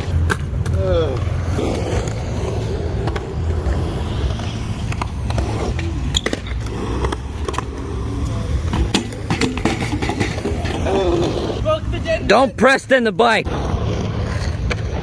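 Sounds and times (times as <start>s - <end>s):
wheels rolling on concrete: 0.0s - 15.0s.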